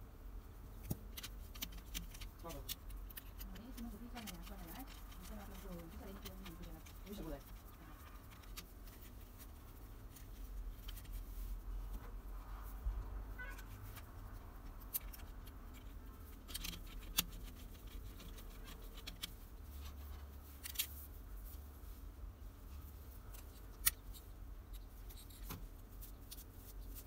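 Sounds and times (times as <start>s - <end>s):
low steady hum: 0.0s - 27.0s
wire rustling: 0.7s - 27.0s.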